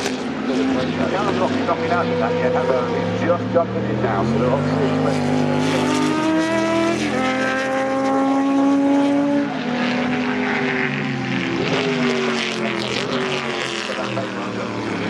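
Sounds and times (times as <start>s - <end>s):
racing car engines at high revs: 0.0s - 15.0s.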